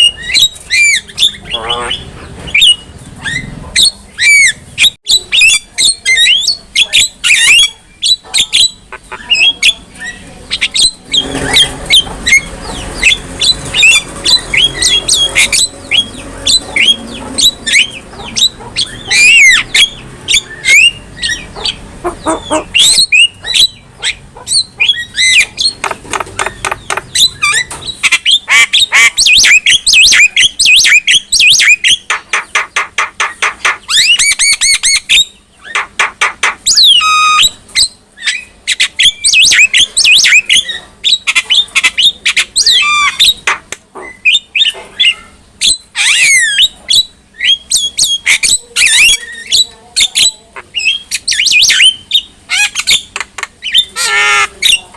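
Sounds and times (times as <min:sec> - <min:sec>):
bird squawking and whistling: 0:00.0 - 0:32.6, 0:33.2 - 0:54.9.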